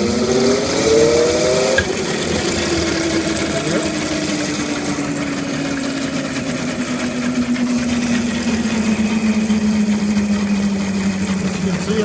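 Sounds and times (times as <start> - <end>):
electric motor whining under load: 0.0 - 12.0.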